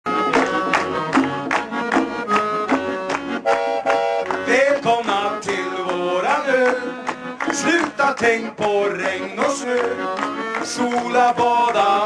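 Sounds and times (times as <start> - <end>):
accordion playing lively tune: 0.1 - 12.0
conga beat: 0.1 - 12.0.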